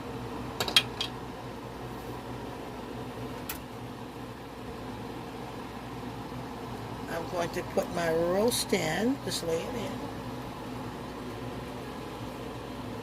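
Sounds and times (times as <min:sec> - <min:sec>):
appliance fan hum and hiss: 0:00.0 - 0:13.0.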